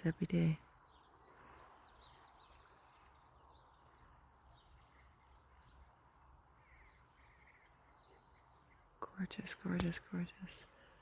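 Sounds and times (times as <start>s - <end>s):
faint bird chirps: 0.0s - 11.0s
low steady background rumble: 0.0s - 11.0s.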